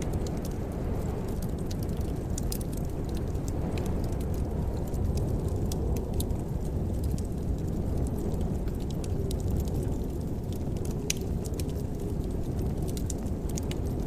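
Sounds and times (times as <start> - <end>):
fireplace fire crackling: 0.0 - 14.0
low rumble of burning fire: 0.0 - 14.0.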